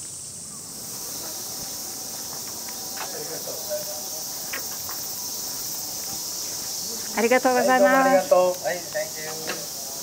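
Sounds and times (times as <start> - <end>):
cicadas buzzing: 0.0 - 10.0.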